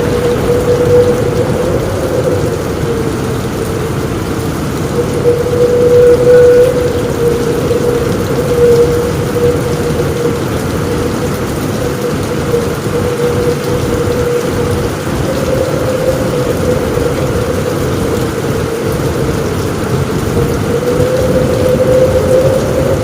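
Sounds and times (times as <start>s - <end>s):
rain on a roof: 0.0s - 23.0s.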